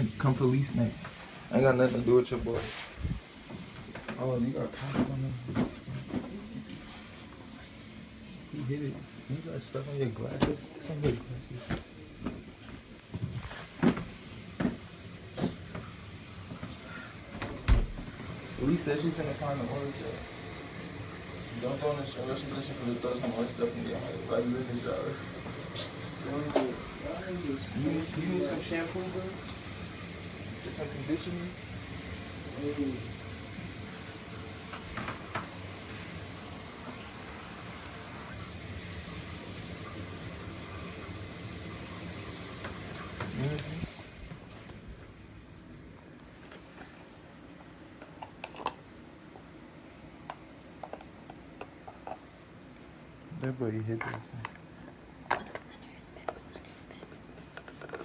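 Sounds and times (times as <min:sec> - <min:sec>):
shower running: 0:00.0 - 0:47.1.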